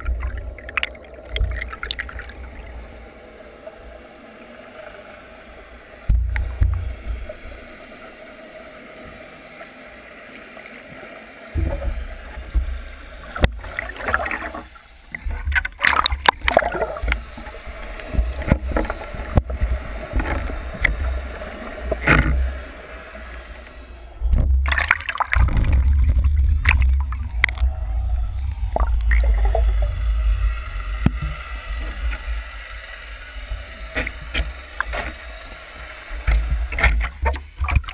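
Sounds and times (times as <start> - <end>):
underwater rush of water: 0.0 - 37.9
water gurgling: 0.0 - 37.9.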